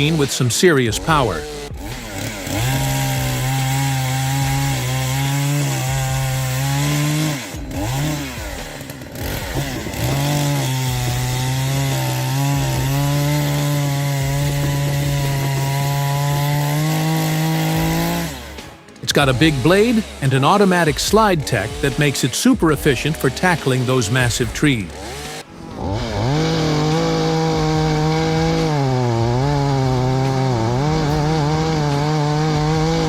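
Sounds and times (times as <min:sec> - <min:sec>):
chainsaw engine at high revs: 0:00.0 - 0:33.0.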